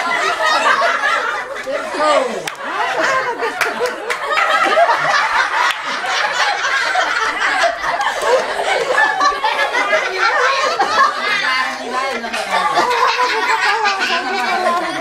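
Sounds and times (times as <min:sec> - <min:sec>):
people laughing and chattering: 0:00.0 - 0:15.0.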